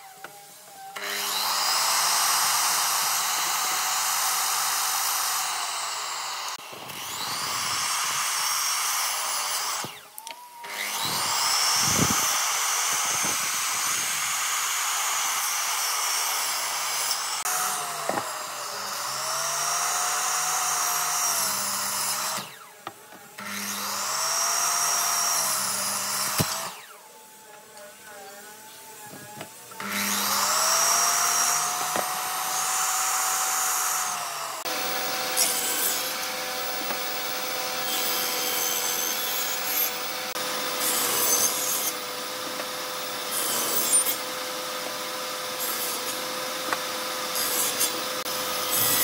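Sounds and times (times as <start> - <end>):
electric miter saw cutting wood: 0.0 - 49.0.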